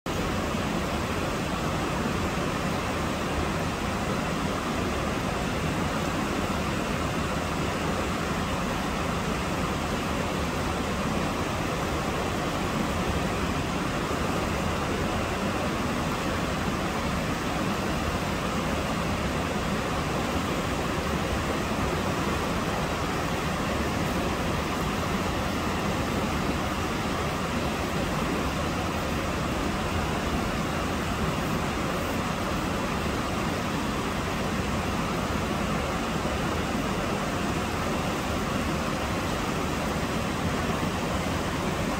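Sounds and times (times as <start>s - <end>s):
river rushing through a weir: 0.1s - 41.9s.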